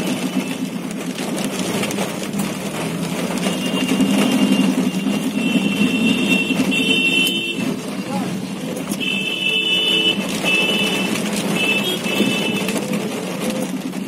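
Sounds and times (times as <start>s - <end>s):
traffic noise: 0.0s - 14.0s
vehicle engine running: 0.0s - 14.0s.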